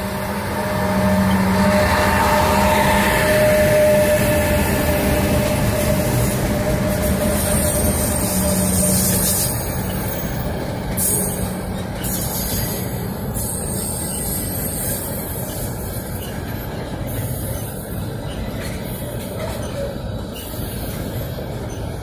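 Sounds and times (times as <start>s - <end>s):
diesel locomotives passing: 0.0s - 22.0s
freight wagons rolling past: 0.0s - 22.0s.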